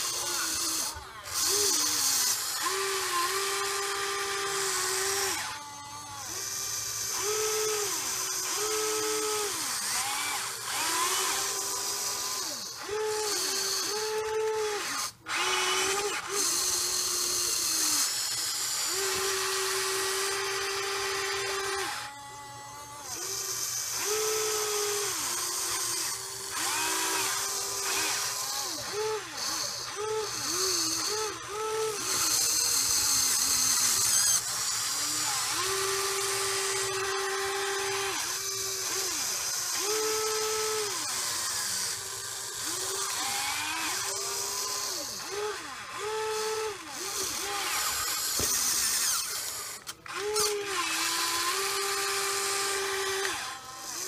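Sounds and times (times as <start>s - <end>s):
electric motors whining: 0.0s - 54.0s.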